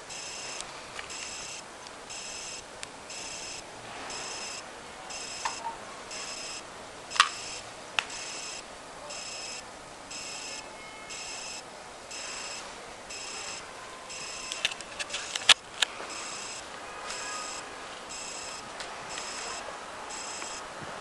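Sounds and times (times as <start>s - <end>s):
high-pitched electronic beeping: 0.1s - 14.6s, 16.1s - 20.7s.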